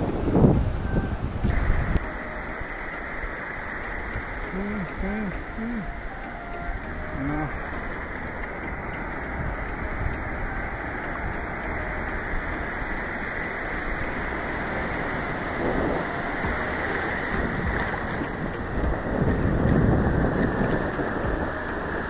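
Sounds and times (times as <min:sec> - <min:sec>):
surf rushing: 0:00.0 - 0:22.0
wind on microphone: 0:00.0 - 0:22.0.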